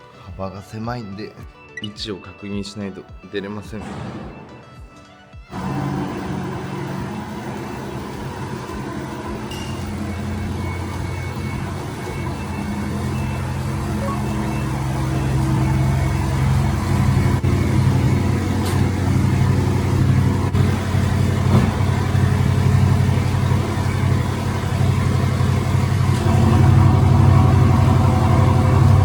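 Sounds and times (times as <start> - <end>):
car engine running at low revs: 5.5 - 29.0.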